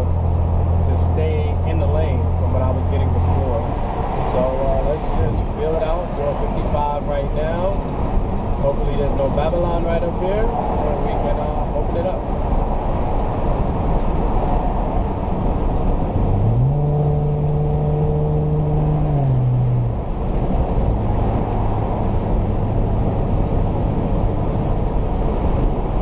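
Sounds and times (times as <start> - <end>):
car cabin road noise: 0.0 - 26.0.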